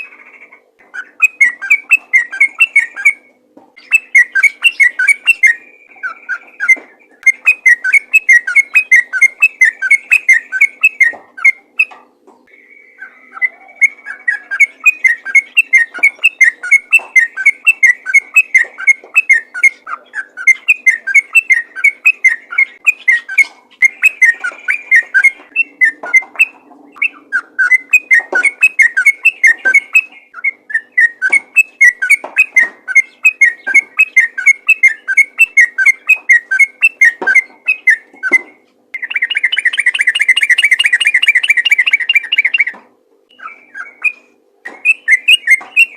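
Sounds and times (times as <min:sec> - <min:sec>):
bird singing whistled notes: 0:01.0 - 0:45.9.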